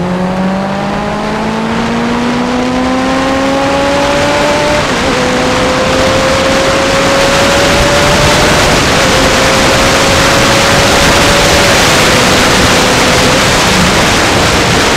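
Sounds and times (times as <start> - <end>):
motorcycle engine accelerating: 0.0 - 14.9
wind rushing on microphone: 0.0 - 14.9.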